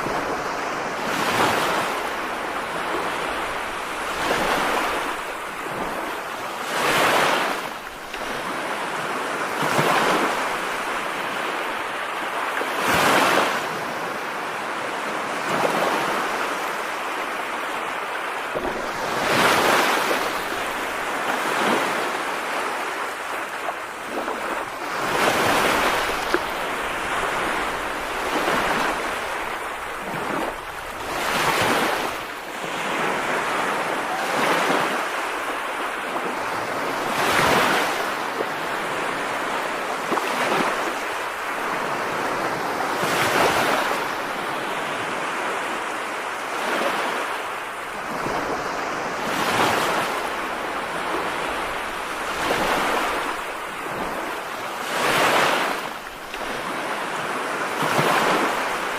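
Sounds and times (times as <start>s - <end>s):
rushing water: 0.0s - 14.0s, 16.2s - 58.9s
wind: 0.0s - 58.9s.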